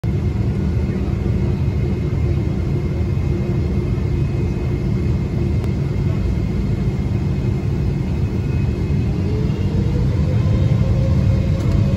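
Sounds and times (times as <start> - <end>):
low rumble of jet engines: 0.0 - 11.9.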